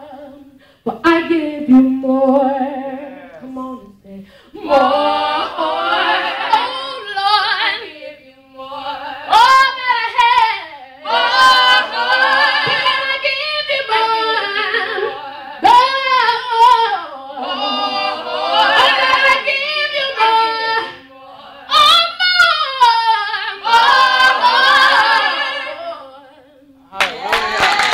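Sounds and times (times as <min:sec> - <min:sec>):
gospel vocal group singing: 0:00.0 - 0:27.2
woman singing lead: 0:00.0 - 0:27.2.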